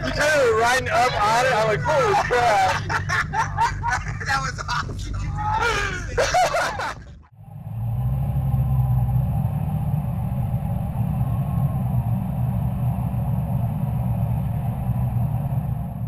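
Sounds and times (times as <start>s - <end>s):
powerboat engine droning: 0.0s - 16.0s.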